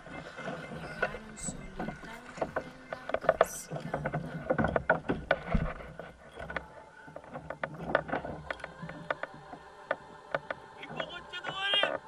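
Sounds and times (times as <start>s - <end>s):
clicks and knocks of fishing tackle: 0.1s - 12.0s.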